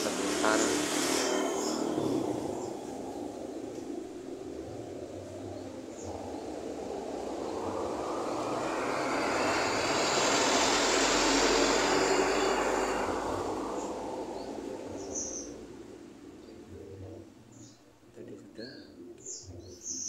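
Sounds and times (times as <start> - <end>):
passing vehicle rushing: 0.0 - 17.3.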